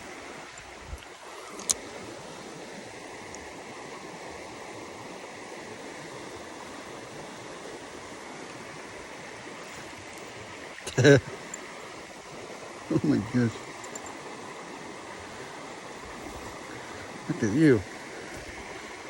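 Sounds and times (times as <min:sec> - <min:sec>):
creek water running: 0:00.0 - 0:19.0.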